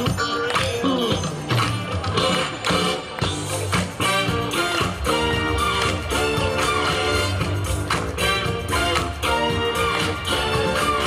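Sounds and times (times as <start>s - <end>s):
dance music with steady beat: 0.0s - 11.0s.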